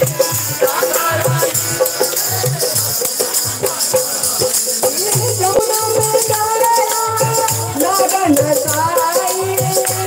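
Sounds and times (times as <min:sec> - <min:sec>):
harmonium sustained notes: 0:00.0 - 0:10.0
steady drum beats: 0:00.0 - 0:10.0.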